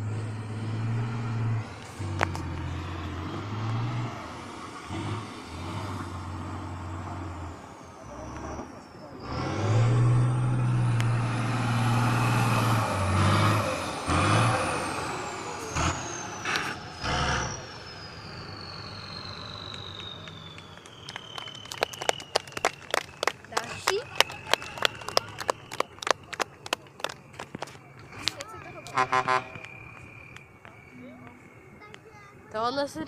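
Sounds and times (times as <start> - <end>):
truck diesel engine revving hard: 0.0 - 27.2, 28.0 - 30.0.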